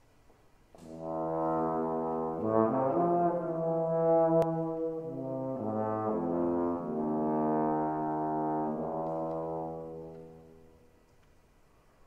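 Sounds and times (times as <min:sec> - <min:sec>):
bass trombone: 0:00.8 - 0:10.9
tenor trombone: 0:00.8 - 0:11.0.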